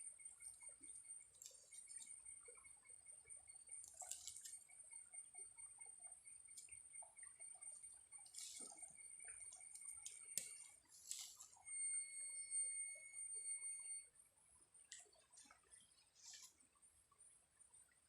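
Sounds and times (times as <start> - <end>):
small clicks and ticks: 0.0 - 14.1, 14.7 - 18.0.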